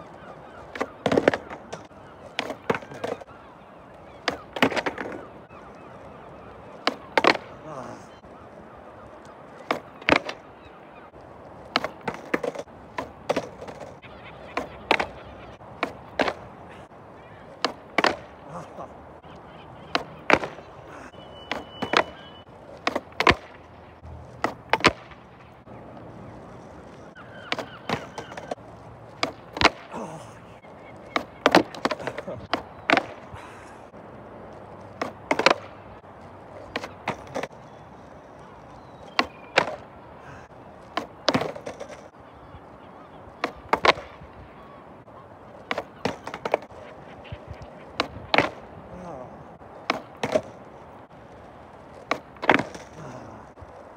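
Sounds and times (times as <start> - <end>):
skateboard popping and landing on asphalt: 0.1 - 7.6, 9.0 - 18.4, 19.9 - 20.8, 21.4 - 29.9, 30.8 - 40.0, 40.8 - 42.2, 43.3 - 48.8, 49.7 - 53.9.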